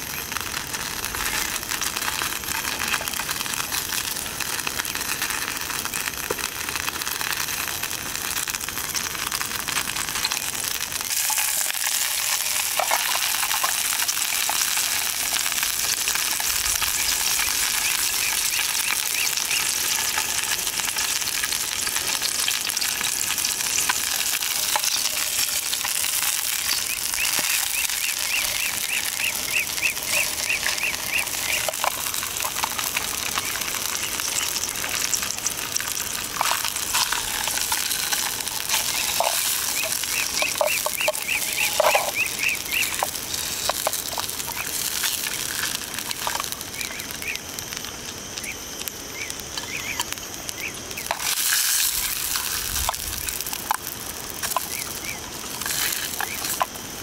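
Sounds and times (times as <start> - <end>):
sausages sizzling in oil: 0.0 - 57.0.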